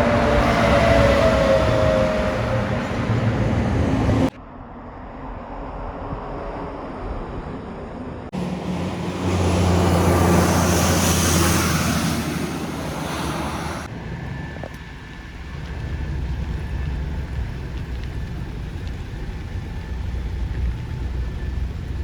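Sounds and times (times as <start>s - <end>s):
heavy truck passing: 0.0s - 4.4s, 8.3s - 22.0s
road traffic noise: 0.0s - 4.7s, 8.3s - 22.0s.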